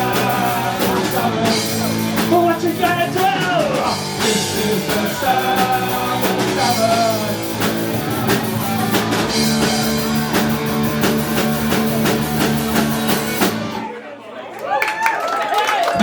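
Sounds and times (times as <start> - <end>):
drums beating steadily: 0.0 - 13.8
live punk rock band: 0.0 - 13.9.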